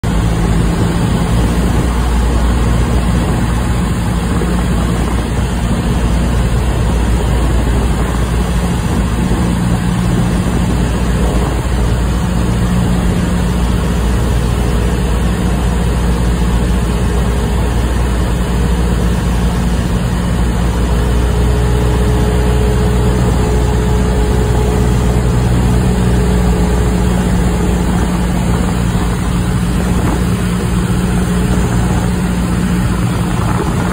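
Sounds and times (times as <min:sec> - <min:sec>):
small plane engine droning: 0:00.0 - 0:33.9.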